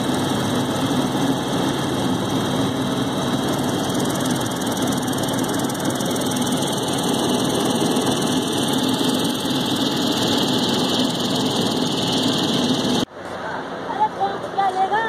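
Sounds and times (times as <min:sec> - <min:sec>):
helicopter cabin drone: 0:00.0 - 0:13.1.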